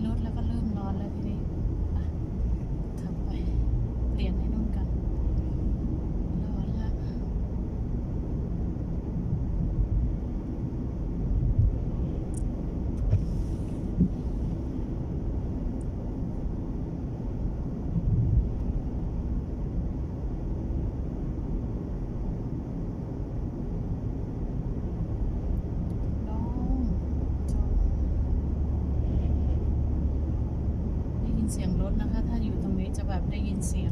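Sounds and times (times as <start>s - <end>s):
car cabin road noise: 0.0s - 33.9s
wind gusts buffeting car: 0.0s - 33.9s.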